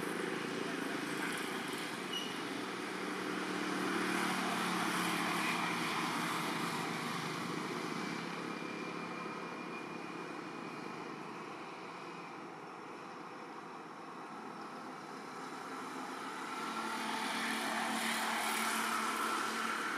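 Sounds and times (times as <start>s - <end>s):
vehicle engine hum and tyre noise: 0.0s - 19.9s.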